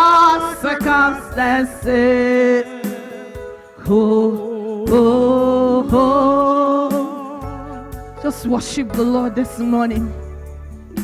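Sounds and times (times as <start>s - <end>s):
person singing gospel song: 0.0s - 11.0s
soft instrumental accompaniment: 0.0s - 11.0s.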